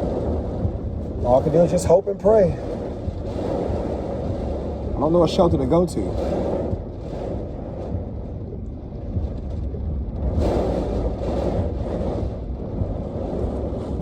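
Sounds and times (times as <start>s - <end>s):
storm wind gusting: 0.0s - 14.0s.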